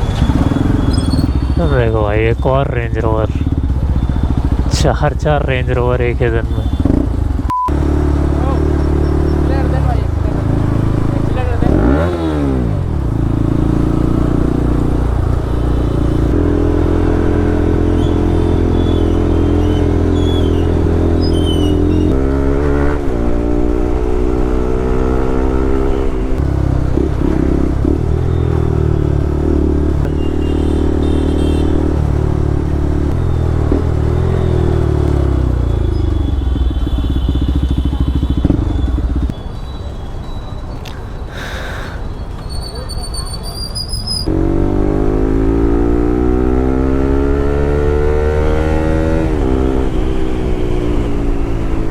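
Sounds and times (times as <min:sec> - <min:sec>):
motorcycle engine revving: 0:00.0 - 0:39.4, 0:44.1 - 0:51.9.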